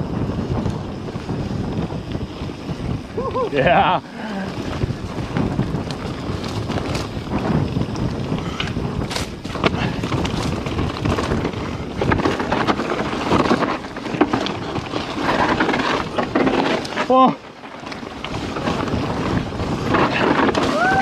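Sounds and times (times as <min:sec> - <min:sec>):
bike rattling: 0:00.0 - 0:21.0
bike tyres rolling on trail: 0:00.0 - 0:21.0
wind rush on microphone: 0:00.0 - 0:21.0.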